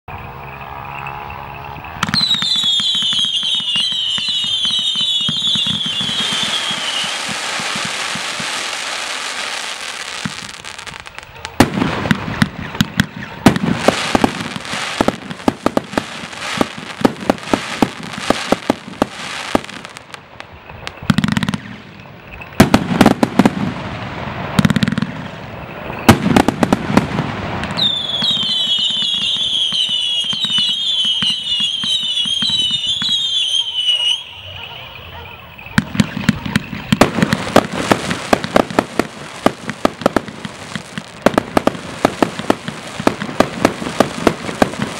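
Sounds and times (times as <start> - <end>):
firework falling whistles: 0.1 - 44.9
firework cracks and bangs: 2.0 - 34.2, 35.6 - 44.9
firework sparks hissing: 2.0 - 34.6, 35.7 - 44.9.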